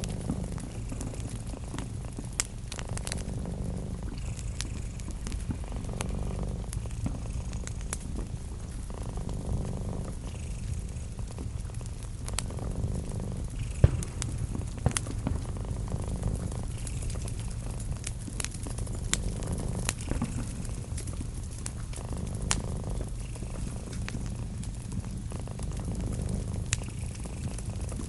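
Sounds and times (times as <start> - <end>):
cat purring: 0.0 - 28.0
wood fire popping and crackling: 0.0 - 28.0.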